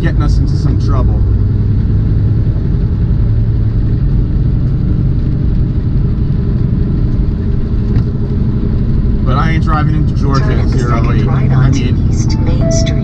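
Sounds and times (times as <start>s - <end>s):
truck diesel engine droning: 0.0s - 13.0s.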